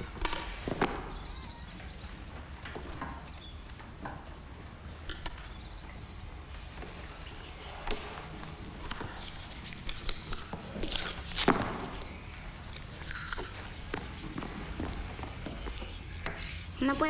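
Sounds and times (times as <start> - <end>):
children shifting at desks: 0.0 - 17.0.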